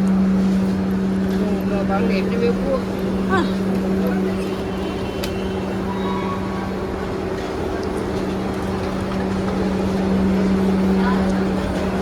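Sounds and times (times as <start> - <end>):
vehicle running with low hum: 0.0 - 12.0.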